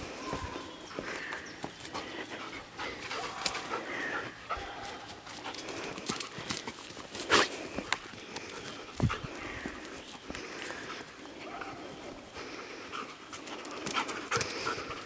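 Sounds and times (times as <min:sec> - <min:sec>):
dog panting and sniffing: 0:00.9 - 0:15.0.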